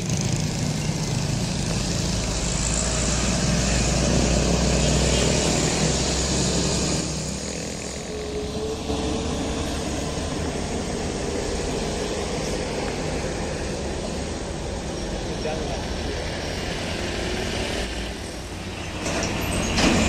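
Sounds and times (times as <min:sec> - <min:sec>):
road traffic noise: 0:00.0 - 0:20.0
truck diesel engine passing: 0:00.0 - 0:20.0.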